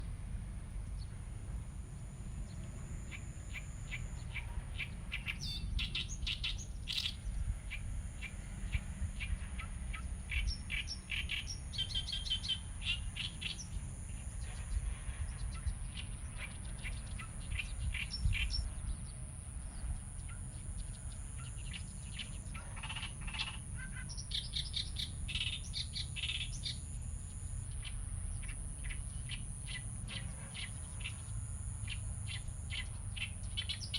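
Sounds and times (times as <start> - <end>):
small birds chirping: 2.4 - 33.9.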